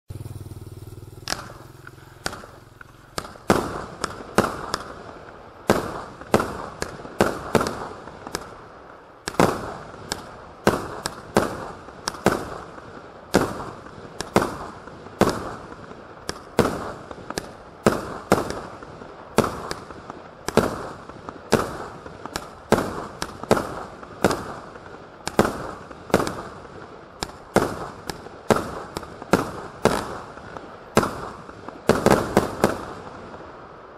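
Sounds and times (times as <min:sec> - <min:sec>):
firework bangs: 0:00.1 - 0:33.9
firework rushing noise: 0:00.1 - 0:33.9.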